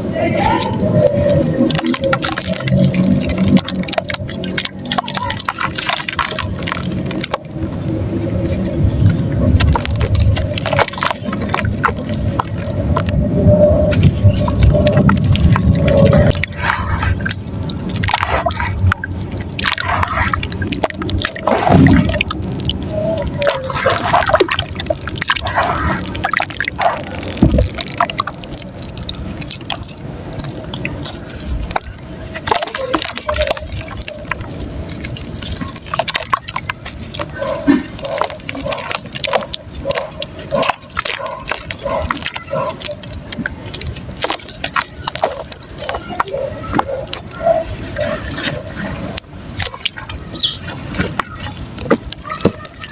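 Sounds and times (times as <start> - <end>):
mud crumbling in water: 0.2 - 52.9
small clicks and crackles: 0.4 - 52.9.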